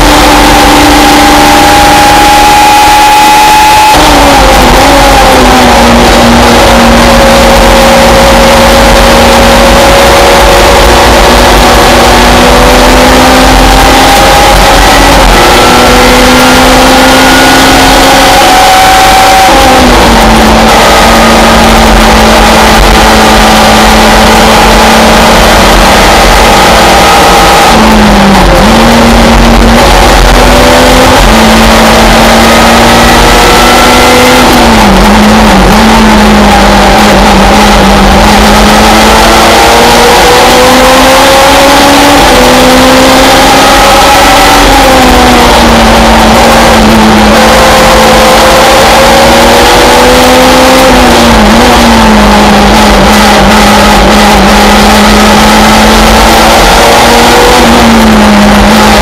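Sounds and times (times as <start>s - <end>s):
race car engine at high revs: 0.0s - 59.0s
road and wind noise: 0.0s - 59.0s.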